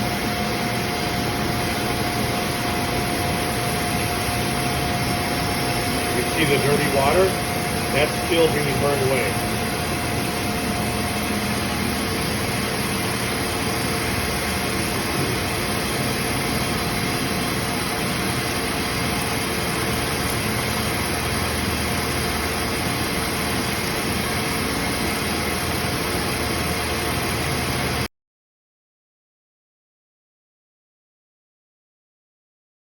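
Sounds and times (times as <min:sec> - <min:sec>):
drilling machine hum and hiss: 0:00.0 - 0:28.1.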